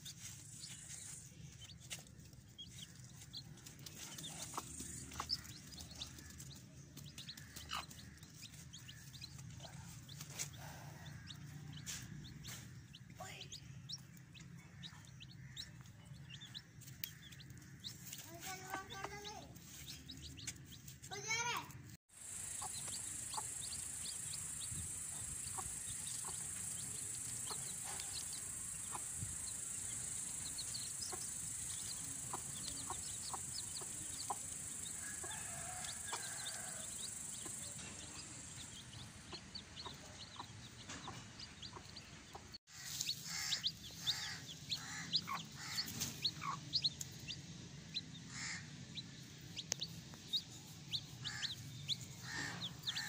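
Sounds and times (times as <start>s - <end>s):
chicks peeping: 0.0s - 21.2s, 22.2s - 53.0s
hen clucking: 2.6s - 19.3s, 22.2s - 47.3s, 48.0s - 53.0s.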